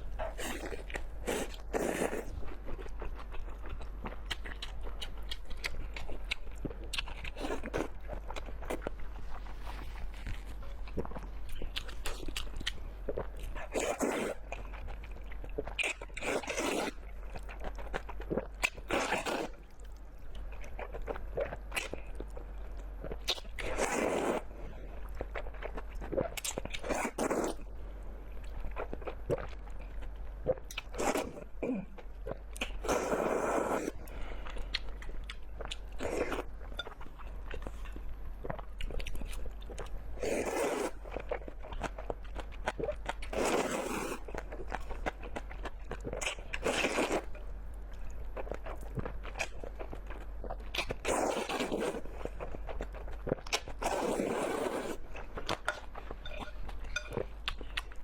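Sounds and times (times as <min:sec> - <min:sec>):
faint low hum: 0:00.0 - 0:58.0
person chewing crunchy food: 0:00.0 - 0:58.0.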